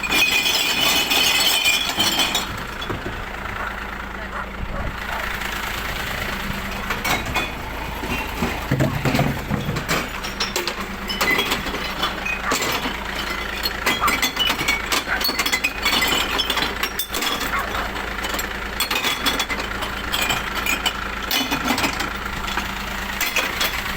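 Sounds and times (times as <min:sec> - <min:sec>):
glass clinking and smashing: 0:00.0 - 0:03.0, 0:07.0 - 0:22.6, 0:23.2 - 0:23.8
diesel engine running: 0:00.0 - 0:23.9.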